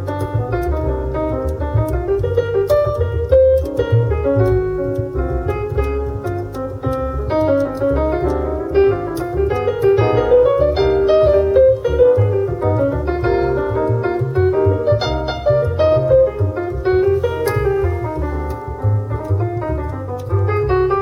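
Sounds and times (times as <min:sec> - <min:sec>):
piano trio music with bass: 0:00.0 - 0:21.0.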